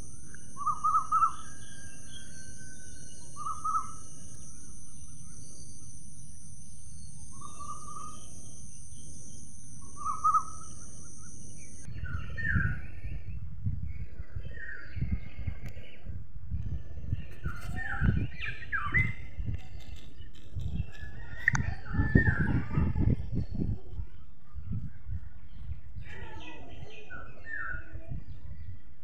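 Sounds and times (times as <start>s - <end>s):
low rumbling noise: 0.0s - 26.8s
small birds chirping: 0.0s - 29.0s.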